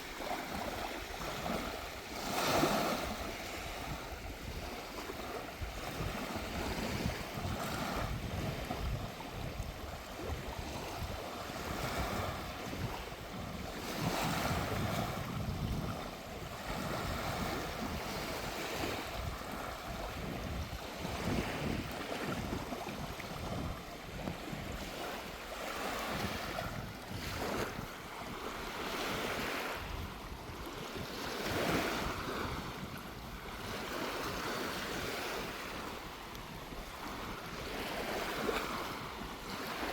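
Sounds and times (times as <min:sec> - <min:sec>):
small waves breaking: 0:00.0 - 0:39.9
wind buffeting microphone: 0:00.0 - 0:39.9.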